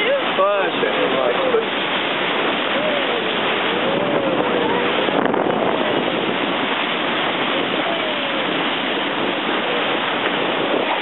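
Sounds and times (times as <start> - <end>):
bow wave rushing along hull: 0.0 - 11.0.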